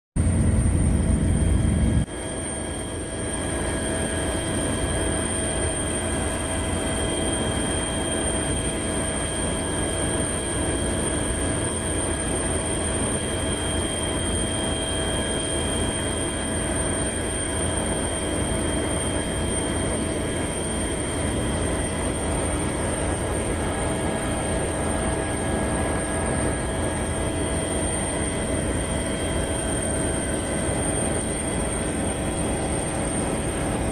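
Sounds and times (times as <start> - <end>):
helicopter engine and rotor: 0.2 - 33.9.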